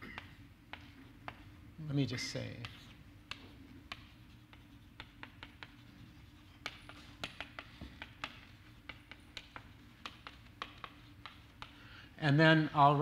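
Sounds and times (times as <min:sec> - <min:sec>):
chalk tapping and scratching: 0:00.0 - 0:13.0
low room hum: 0:00.0 - 0:13.0.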